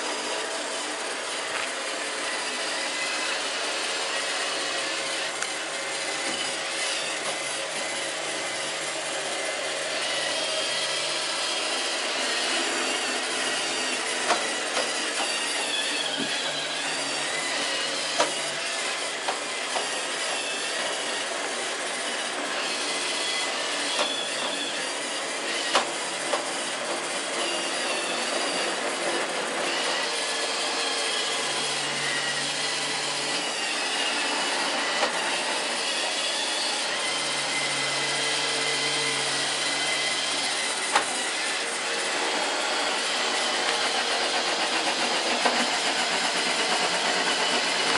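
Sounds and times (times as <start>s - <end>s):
robot vacuum whirring: 0.0s - 47.9s.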